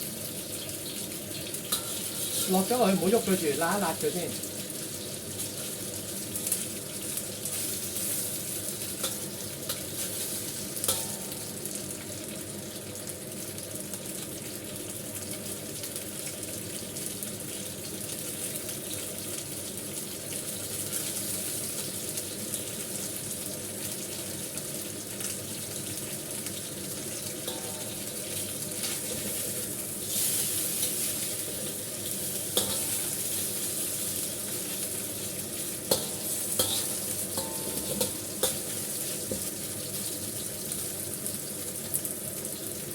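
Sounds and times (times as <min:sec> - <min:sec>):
ribs sizzling in hot oil: 0:00.0 - 0:42.9.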